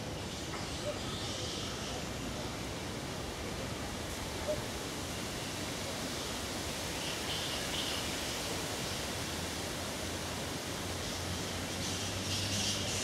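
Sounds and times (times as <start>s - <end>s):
even outdoor hiss: 0.0s - 13.0s.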